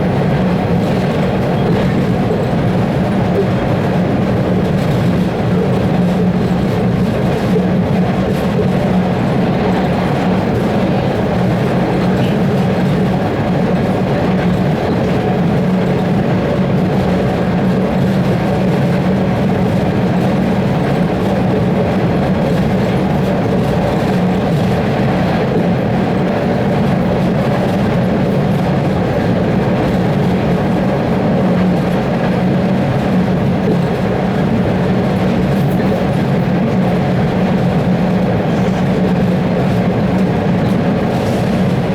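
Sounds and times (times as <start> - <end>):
constant low hum: 0.0 - 41.9
subway wheels rumbling on rail: 0.0 - 41.9.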